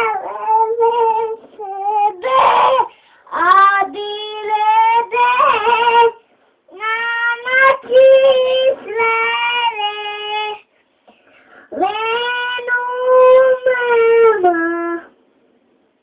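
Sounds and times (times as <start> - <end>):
child singing long held notes: 0.0 - 10.7, 11.7 - 15.2.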